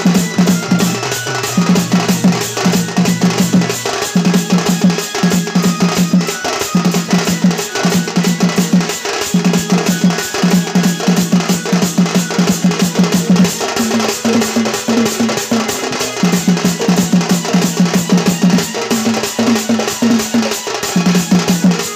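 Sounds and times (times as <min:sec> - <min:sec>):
barrel drum fast rhythm: 0:00.0 - 0:21.9.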